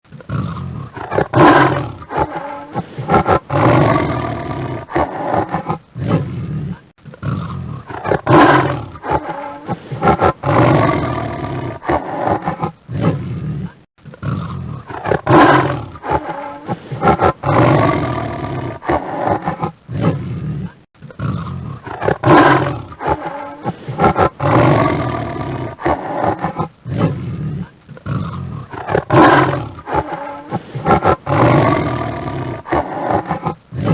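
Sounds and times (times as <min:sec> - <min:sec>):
tiger roaring: 0:00.1 - 0:33.9.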